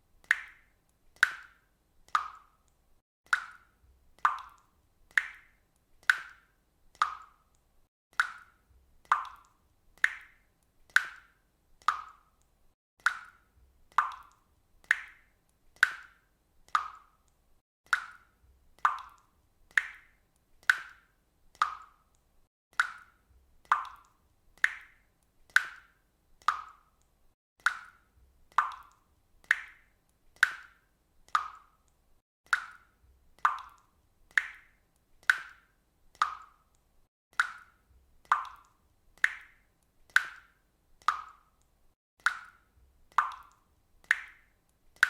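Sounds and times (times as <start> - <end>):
water drops plinking into water: 0.2 - 45.0.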